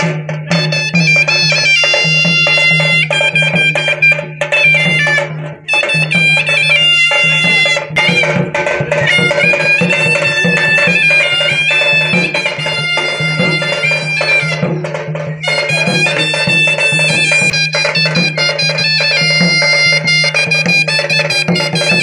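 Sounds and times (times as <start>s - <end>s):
drum strokes: 0.0s - 22.0s
reedy wind instrument melody: 0.0s - 22.0s.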